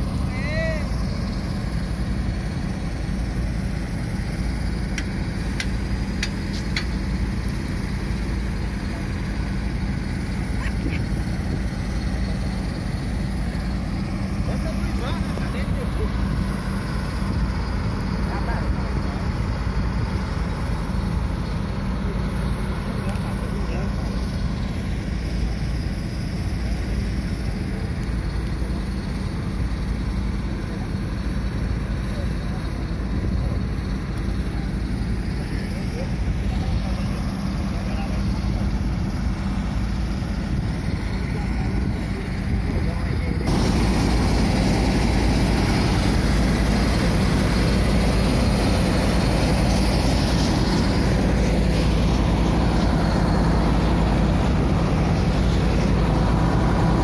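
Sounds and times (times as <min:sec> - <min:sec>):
diesel engines rumbling: 0:00.0 - 0:57.0.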